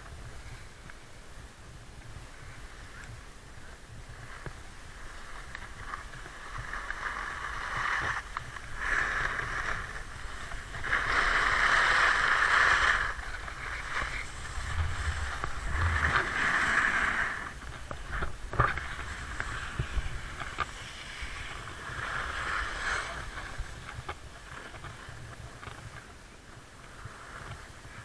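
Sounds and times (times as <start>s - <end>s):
wind rumble on microphone: 0.0s - 28.0s
snow hissing under sliding rider: 0.2s - 25.3s.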